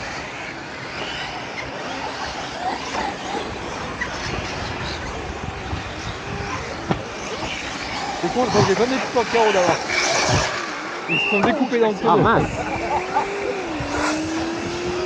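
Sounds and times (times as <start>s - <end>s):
electric motor of toy car: 0.0s - 15.0s.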